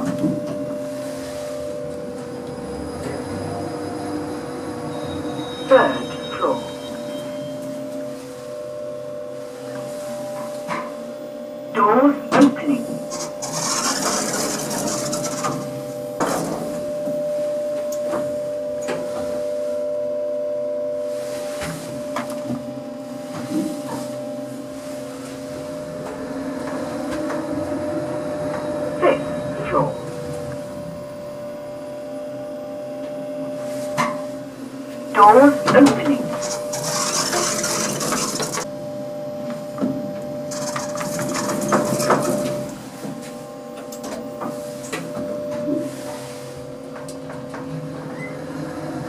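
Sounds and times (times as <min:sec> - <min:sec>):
steady mid-pitched tones: 0:00.0 - 0:18.8, 0:23.8 - 0:47.2
lift machine hum: 0:00.0 - 0:49.0.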